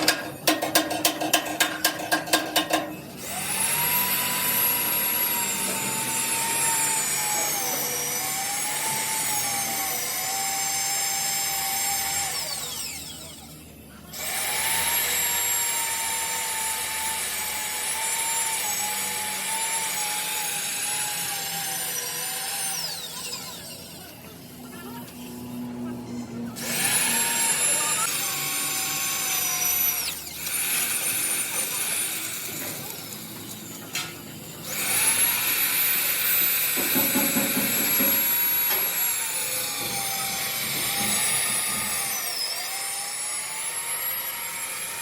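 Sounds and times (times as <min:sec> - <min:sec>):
power tool motor whining: 0:03.0 - 0:45.0.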